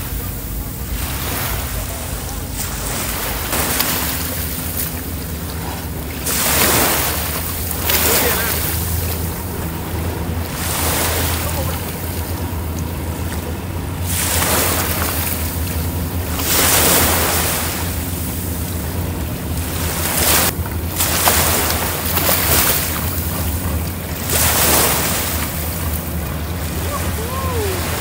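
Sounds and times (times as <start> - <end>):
boat engine humming: 0.0 - 28.0
rushing water: 0.0 - 28.0.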